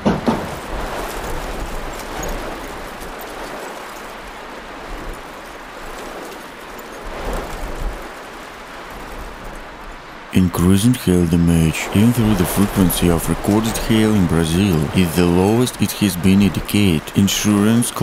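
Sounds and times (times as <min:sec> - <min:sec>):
heavy rain and hail: 0:00.0 - 0:18.0
wind rumbling on microphone: 0:00.0 - 0:18.0.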